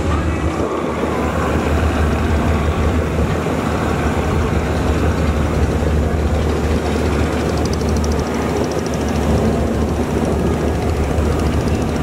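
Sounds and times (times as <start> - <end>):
diesel engines low drone: 0.0 - 12.0.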